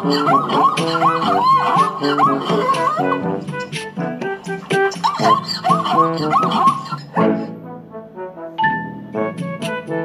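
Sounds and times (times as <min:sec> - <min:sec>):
brass-like background music: 0:00.0 - 0:10.0.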